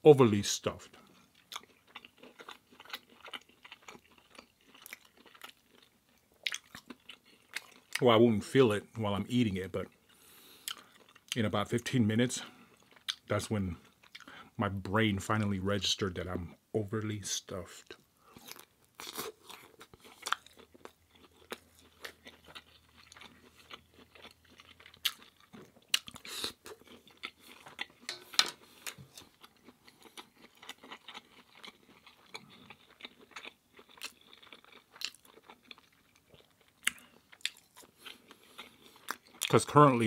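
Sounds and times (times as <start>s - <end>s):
person chewing and crunching food: 0.7s - 8.2s, 9.3s - 11.6s, 12.2s - 14.6s, 17.7s - 40.0s.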